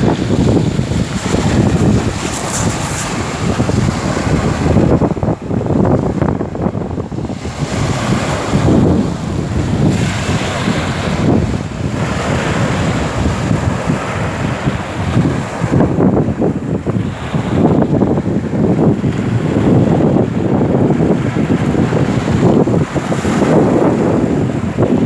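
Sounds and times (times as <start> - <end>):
sea waves washing in: 0.0 - 25.0
wind buffeting microphone: 0.0 - 25.0.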